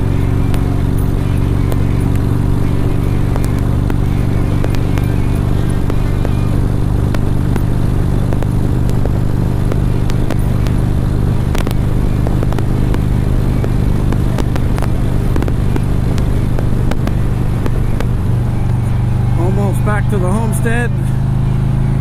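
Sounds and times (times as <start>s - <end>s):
wind noise: 0.0s - 19.4s
microphone crackles: 0.0s - 19.9s
motorcycle engine cruising: 0.0s - 22.0s.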